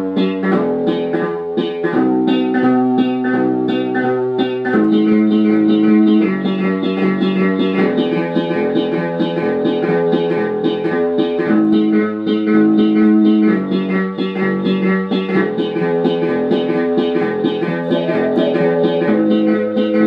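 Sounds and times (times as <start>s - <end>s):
electronic keyboard chords: 0.0s - 20.0s
quick repeated keyboard notes: 0.0s - 20.0s.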